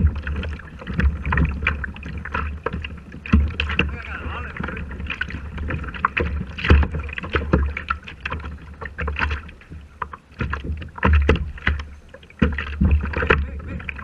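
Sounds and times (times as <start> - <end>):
water splashing against kayak hull: 0.0 - 14.0.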